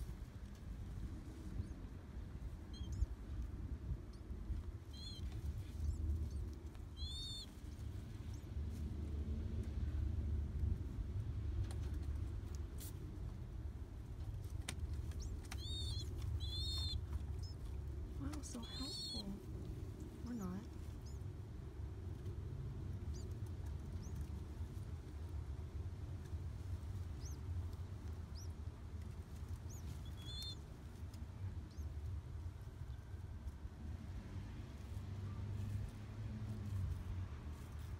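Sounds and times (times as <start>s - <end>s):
pigeon chick peeping: 0.0s - 34.0s, 34.6s - 37.9s
steady low rumble: 0.0s - 37.9s.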